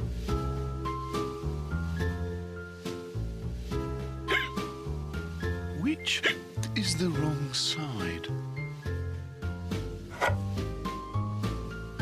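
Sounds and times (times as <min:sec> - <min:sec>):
gentle cartoon background music: 0:00.0 - 0:12.0.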